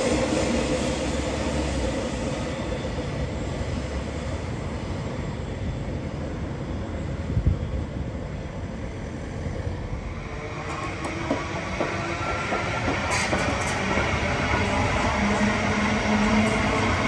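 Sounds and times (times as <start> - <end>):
train rolling rumble: 0.0 - 17.0.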